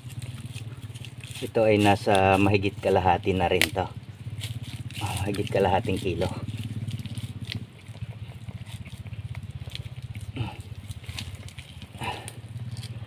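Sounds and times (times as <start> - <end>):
clicks and scrapes in mud: 0.0 - 13.0
small engine humming: 0.0 - 13.0.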